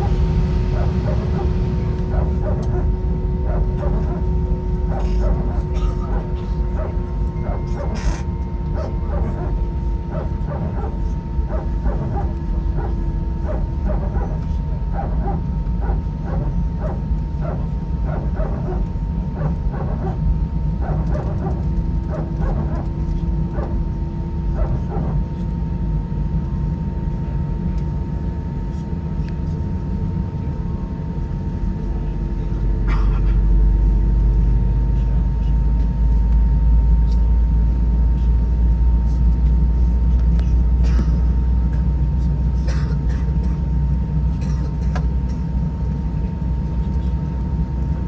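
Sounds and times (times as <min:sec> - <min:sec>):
jet engines humming and rumbling: 0:00.0 - 0:48.0.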